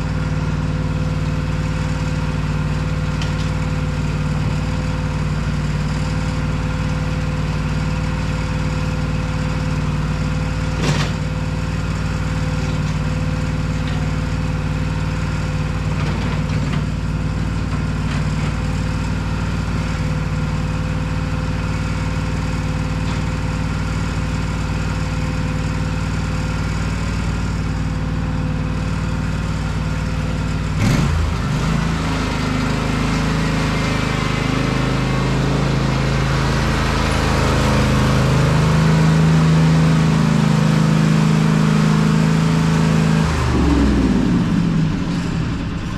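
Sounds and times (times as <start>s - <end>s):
small petrol engine running: 0.0s - 45.9s.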